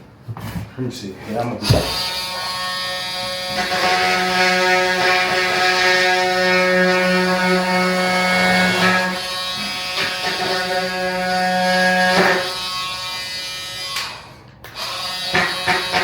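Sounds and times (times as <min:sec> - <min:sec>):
power tool cutting plank: 0:01.6 - 0:16.0.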